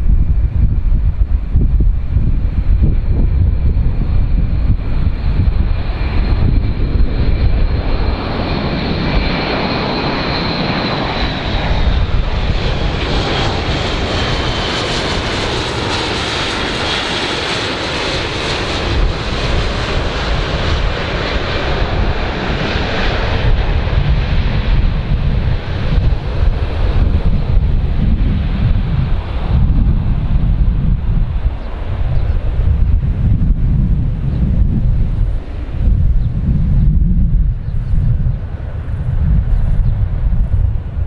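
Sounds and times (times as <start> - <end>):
turboprop aircraft flying past: 0.0 - 41.0
wind rumbling on microphone: 0.0 - 41.0.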